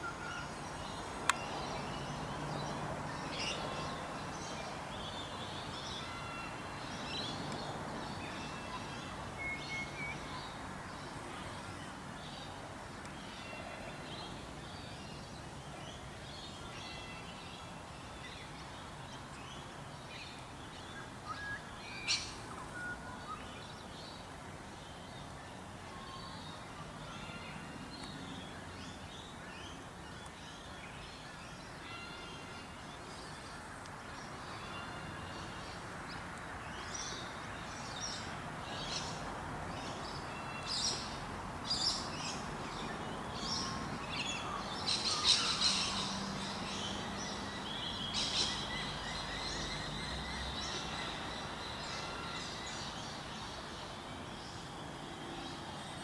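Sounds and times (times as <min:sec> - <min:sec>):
steady background noise: 0:00.0 - 0:56.0.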